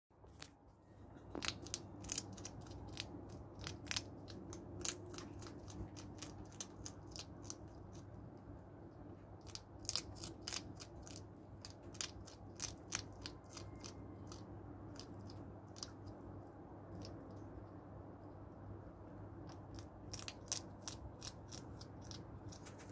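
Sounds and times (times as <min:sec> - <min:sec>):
hedgehog crunching dry kibble: 0:00.2 - 0:08.6, 0:09.2 - 0:17.8, 0:19.4 - 0:22.9.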